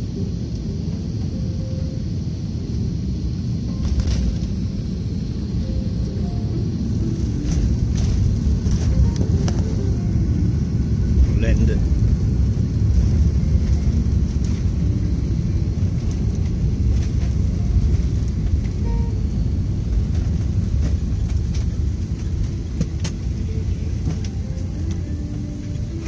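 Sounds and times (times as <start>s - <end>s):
airliner cabin low rumble: 0.0s - 26.0s.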